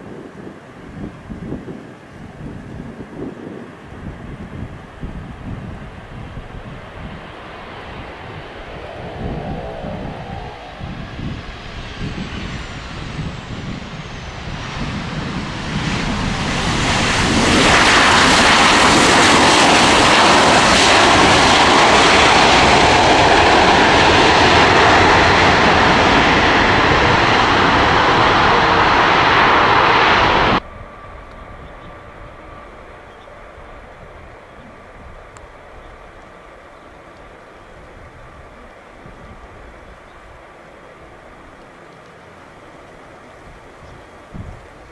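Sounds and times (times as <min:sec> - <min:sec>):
jet engines landing roar: 0:00.0 - 0:44.9
distant jet on approach: 0:03.1 - 0:44.9.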